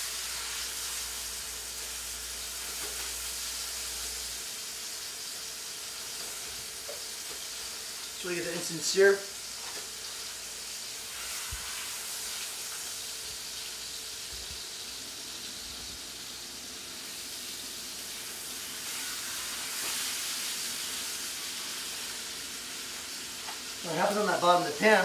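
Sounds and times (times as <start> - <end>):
meat sizzling in a frying pan: 0.0 - 25.0.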